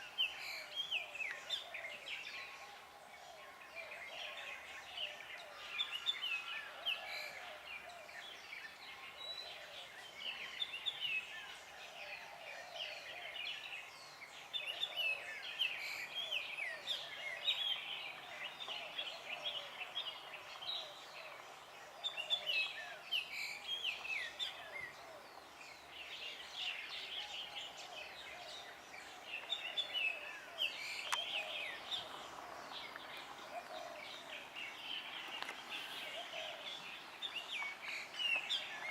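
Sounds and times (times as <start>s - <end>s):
birds chirping and singing: 0.0s - 38.9s
low bird chatter: 0.0s - 38.9s.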